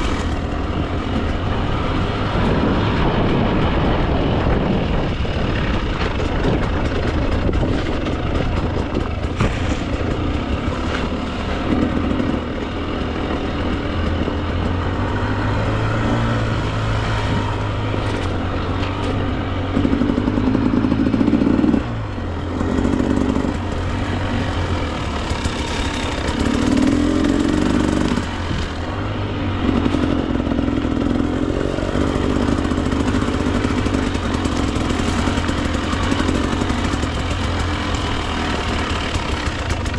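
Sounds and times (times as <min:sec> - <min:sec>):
two-stroke dirt bike engine revving: 0:00.0 - 0:39.9.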